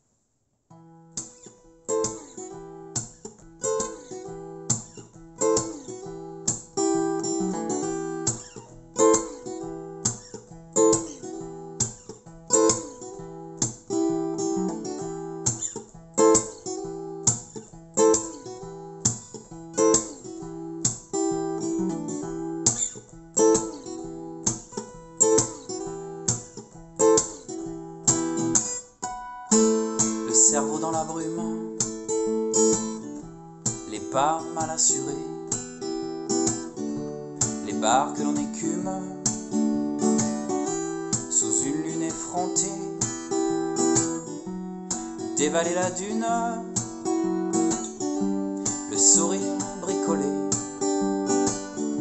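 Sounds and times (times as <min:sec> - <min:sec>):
acoustic guitar plucking: 0:00.7 - 0:52.0.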